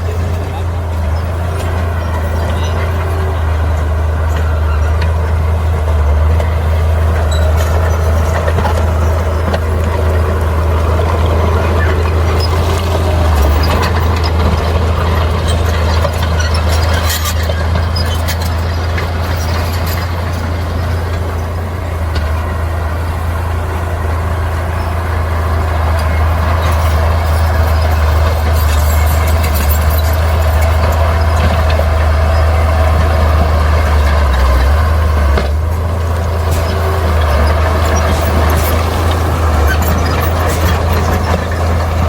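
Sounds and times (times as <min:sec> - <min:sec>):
metallic clanks and squeaks: 0:00.0 - 0:23.4, 0:24.5 - 0:42.0
diesel machinery engine drone: 0:00.0 - 0:42.0.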